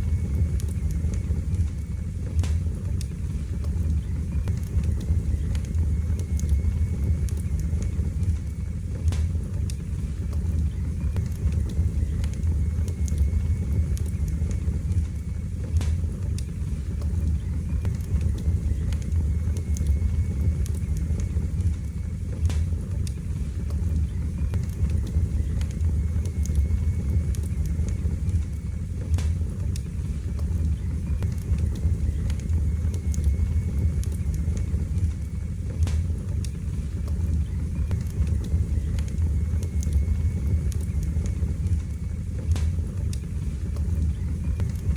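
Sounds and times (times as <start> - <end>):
wood fire burning: 0.0 - 44.9.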